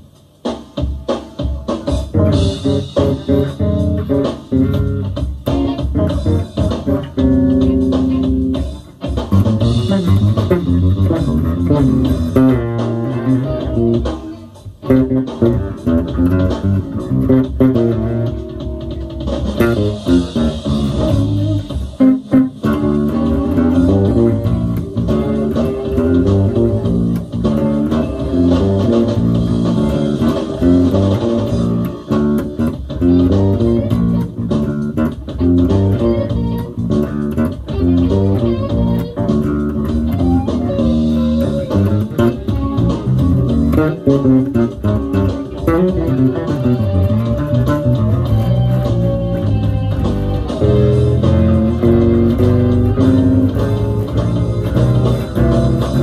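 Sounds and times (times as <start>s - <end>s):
electric bass funk line: 0.0s - 56.0s.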